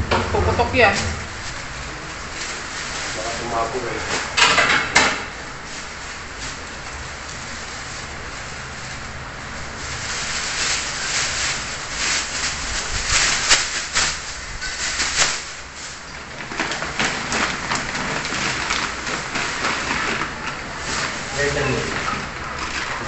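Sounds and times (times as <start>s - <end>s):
plastic bags crinkling: 0.5s - 23.0s.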